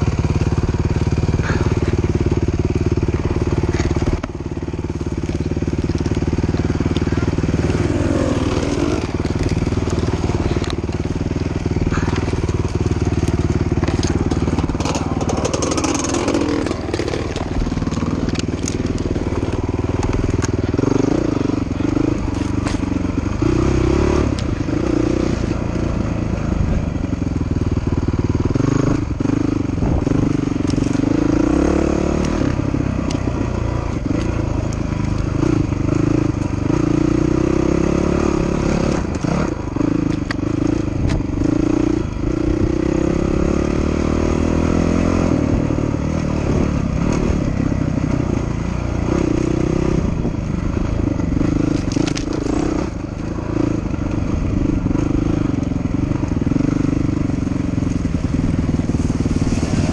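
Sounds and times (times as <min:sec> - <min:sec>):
dirt bike engine revving: 0:00.0 - 0:27.0, 0:27.6 - 0:59.9
clatter from riding over ground: 0:00.1 - 0:25.9, 0:27.4 - 0:59.9.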